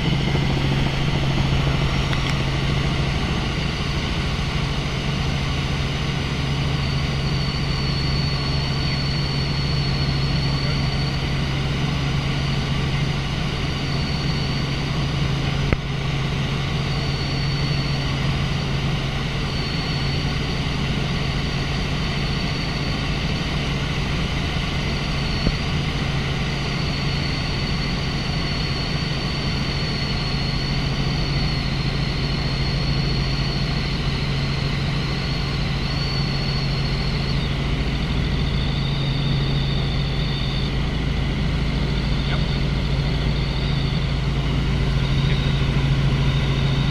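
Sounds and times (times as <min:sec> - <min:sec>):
helicopter in flight: 0:00.0 - 0:46.9.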